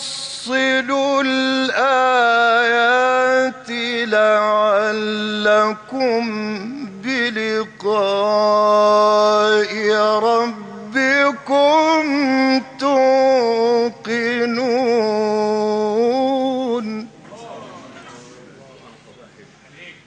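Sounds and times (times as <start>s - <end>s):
man reciting in melodic chant: 0.0s - 20.0s.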